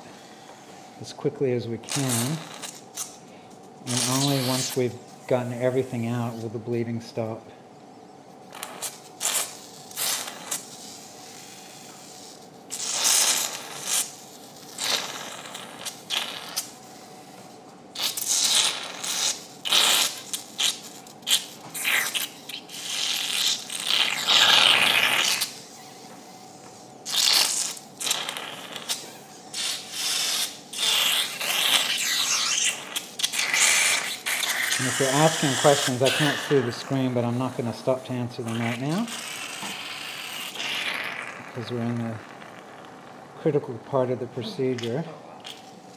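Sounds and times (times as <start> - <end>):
surgical suction slurping and hissing: 1.9 - 3.2, 3.9 - 6.5, 8.5 - 16.8, 18.0 - 25.7, 26.3 - 44.8.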